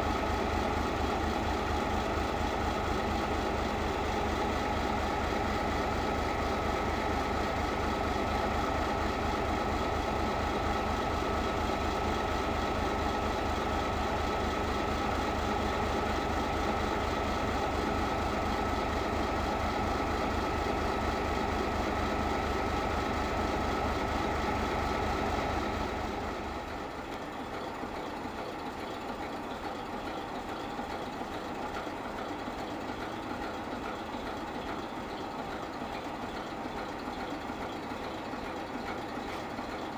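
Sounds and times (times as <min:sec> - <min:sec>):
diesel locomotive engine rumbling: 0:00.0 - 0:39.9.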